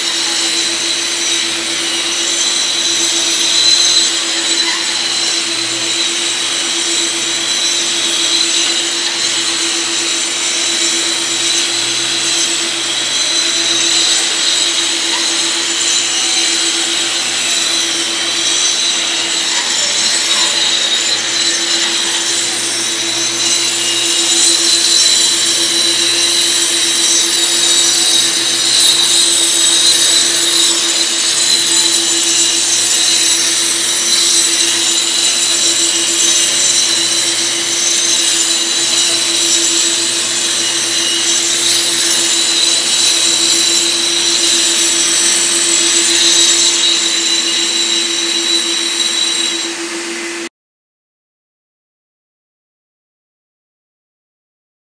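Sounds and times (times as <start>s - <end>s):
angle grinder grinding concrete: 0.0s - 50.5s.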